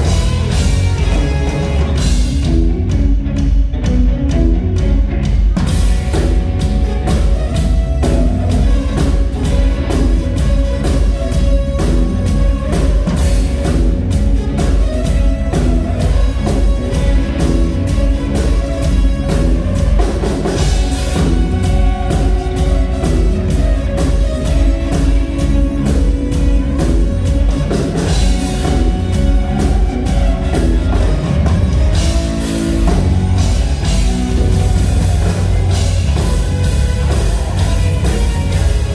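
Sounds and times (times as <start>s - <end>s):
drum kit beat: 0.0s - 38.9s
electric guitars: 0.0s - 38.9s.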